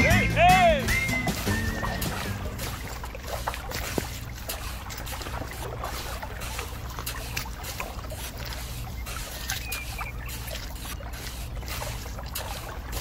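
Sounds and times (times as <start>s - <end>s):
wet cement scraping: 0.0s - 13.0s.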